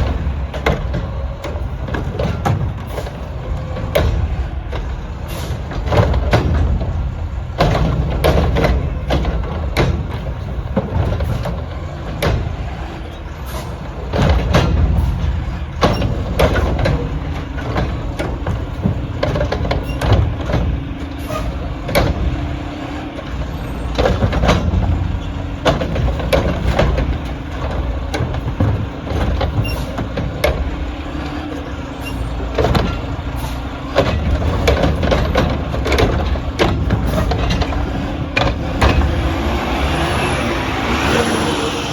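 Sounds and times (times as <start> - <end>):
garbage truck rumbling: 0.0 - 41.9
sharp knocks and clanks: 0.0 - 41.9.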